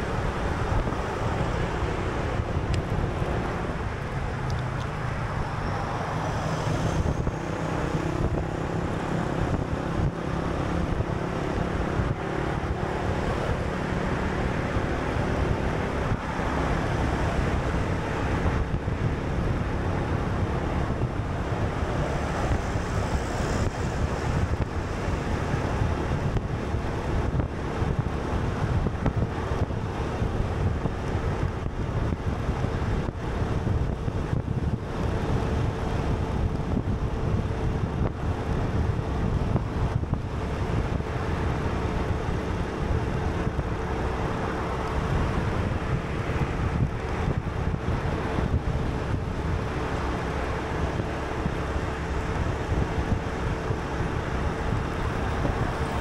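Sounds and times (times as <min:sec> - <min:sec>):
moving vehicle rumble: 0:00.0 - 0:56.0
wind buffeting microphone: 0:00.0 - 0:56.0.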